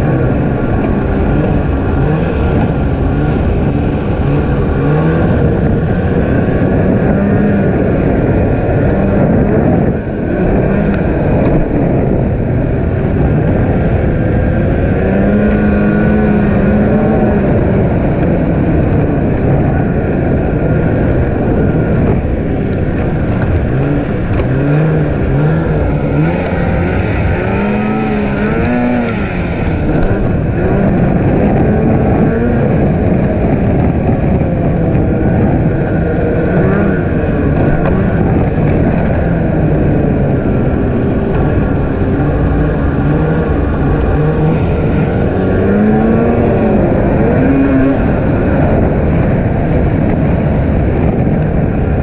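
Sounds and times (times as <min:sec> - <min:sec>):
sled rumbling: 0:00.0 - 0:52.0
snowmobile engine revving: 0:00.0 - 0:52.0.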